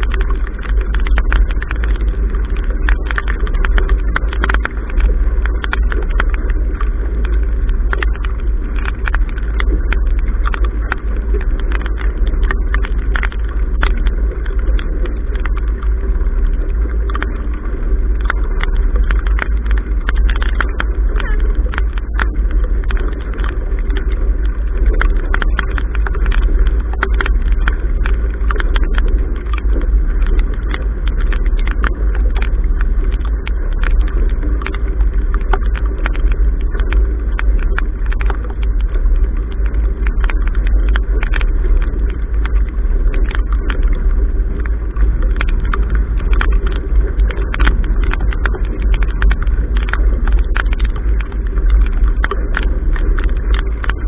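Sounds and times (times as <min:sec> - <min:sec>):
choppy water rushing along hull: 0:00.0 - 0:54.0
rain and spray ticking on camera: 0:00.0 - 0:54.0.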